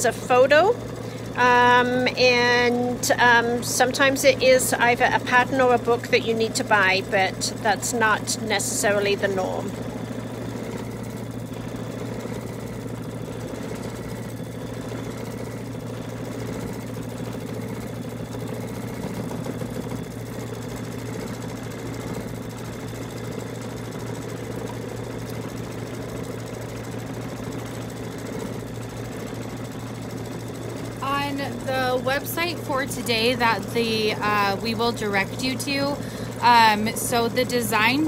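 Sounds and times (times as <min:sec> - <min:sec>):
embroidery machine stitching: 0:00.0 - 0:38.0.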